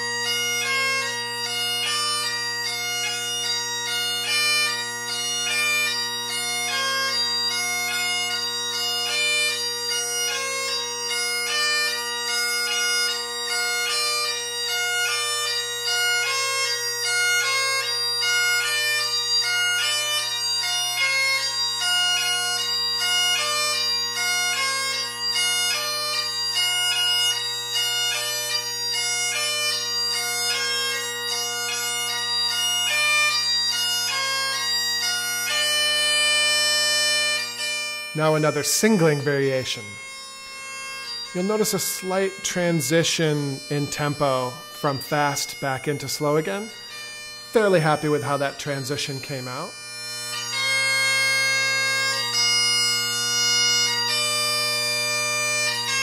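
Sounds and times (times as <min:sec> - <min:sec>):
bagpipe chanter melody: 0:00.0 - 0:56.0
bagpipe drones: 0:00.0 - 0:56.0.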